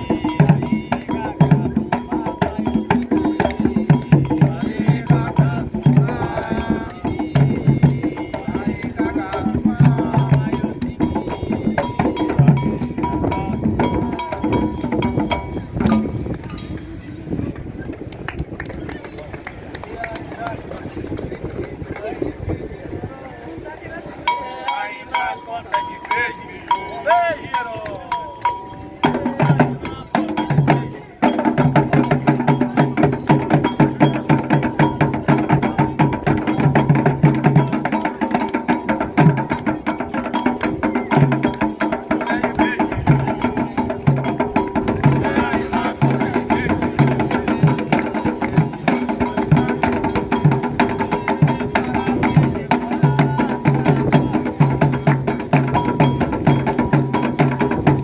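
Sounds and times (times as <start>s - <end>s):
hand drums playing fast rhythm: 0.0s - 22.2s, 23.0s - 58.0s.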